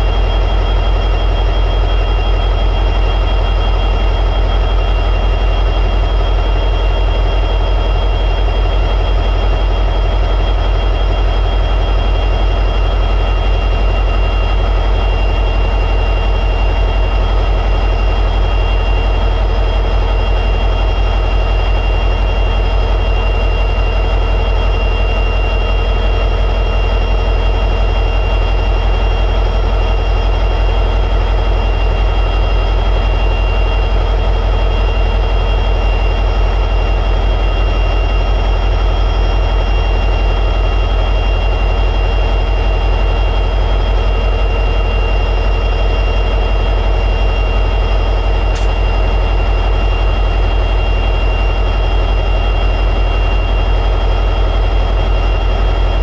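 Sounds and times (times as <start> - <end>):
diesel locomotive engine idling: 0.0 - 56.0
high-pitched whine: 0.0 - 56.0.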